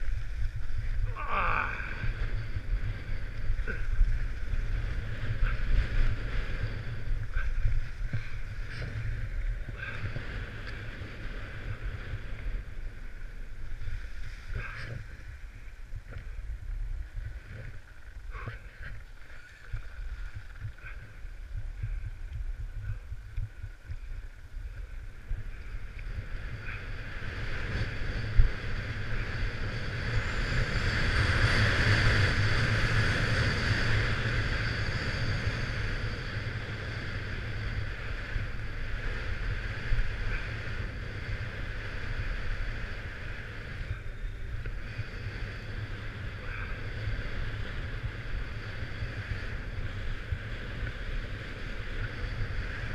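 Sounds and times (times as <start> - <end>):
wind buffeting the microphone: 0.0 - 52.9.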